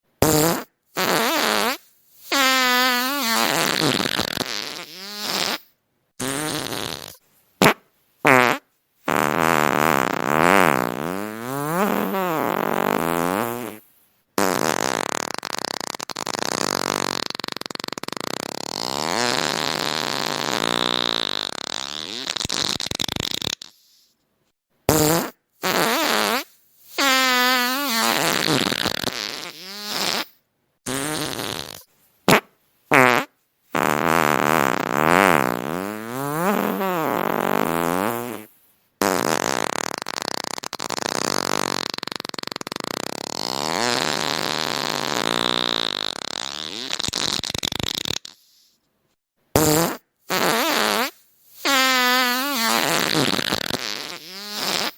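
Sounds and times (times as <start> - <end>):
fart sounds: 0.2 - 24.2, 24.9 - 48.8, 49.5 - 54.9.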